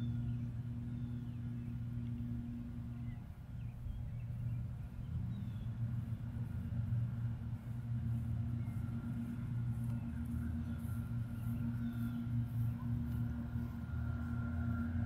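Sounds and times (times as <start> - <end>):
lawn mower engines droning: 0.0 - 15.0.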